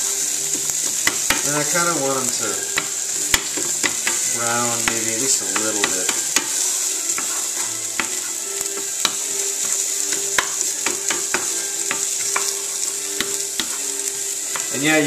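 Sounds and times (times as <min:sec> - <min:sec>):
vegetables sizzling in a pan: 0:00.0 - 0:15.0
wooden spoon scraping a pan: 0:00.0 - 0:15.0.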